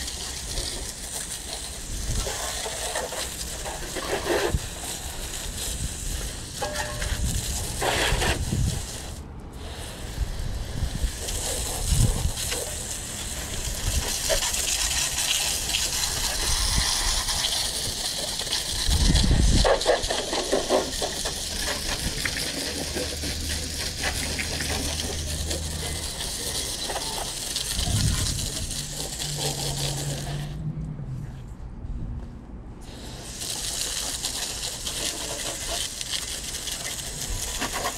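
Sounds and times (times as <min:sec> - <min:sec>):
hose spraying water: 0:00.0 - 0:30.6, 0:32.8 - 0:37.9.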